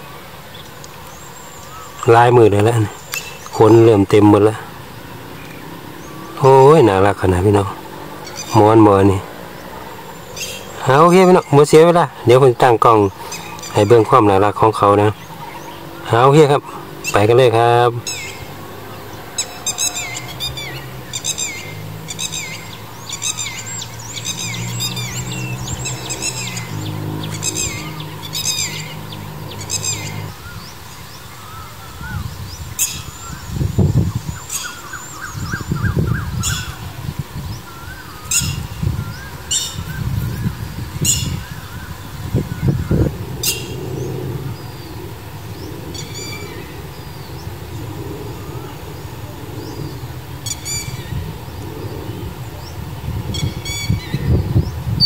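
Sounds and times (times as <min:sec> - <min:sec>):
lapwing sharp falling calls: 0:00.0 - 0:33.5, 0:34.3 - 0:54.4
low rumbling bursts: 0:02.0 - 0:34.4, 0:35.2 - 0:55.0.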